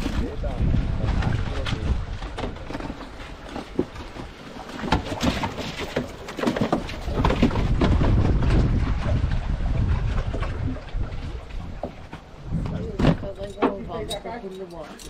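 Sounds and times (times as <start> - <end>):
wind rumble on microphone: 0.0 - 5.9, 6.5 - 14.4.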